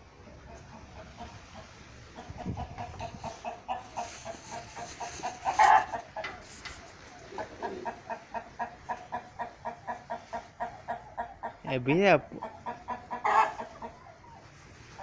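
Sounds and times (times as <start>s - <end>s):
chicken clucking: 0.3s - 15.0s.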